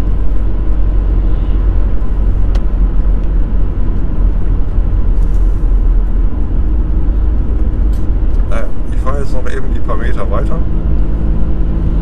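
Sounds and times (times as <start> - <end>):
van engine and tyre noise: 0.0 - 12.0.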